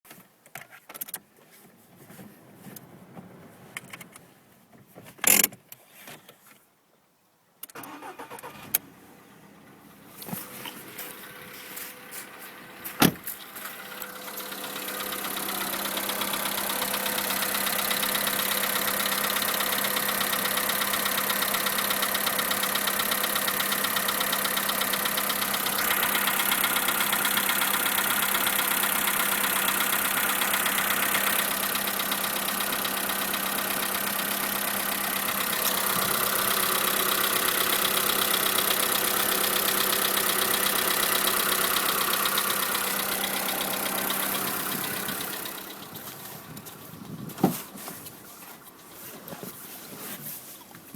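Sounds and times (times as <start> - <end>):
engine idling with rhythmic knock: 10.0 - 50.9.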